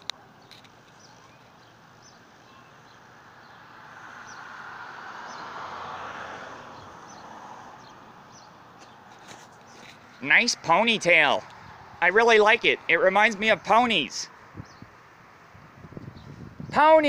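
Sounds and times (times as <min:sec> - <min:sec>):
car passing: 0:01.6 - 0:16.4.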